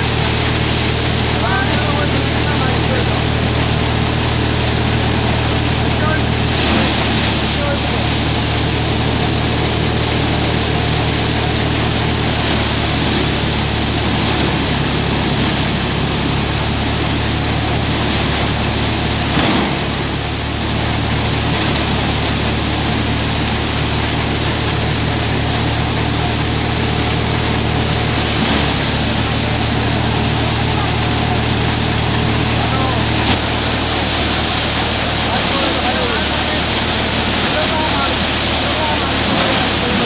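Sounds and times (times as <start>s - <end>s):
diesel tractor engine hum: 0.0s - 40.0s
thresher threshing and blowing: 0.0s - 40.0s.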